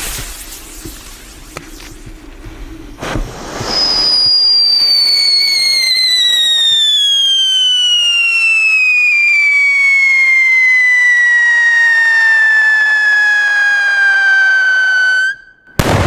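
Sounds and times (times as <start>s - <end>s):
firecracker whistling: 3.0s - 16.0s.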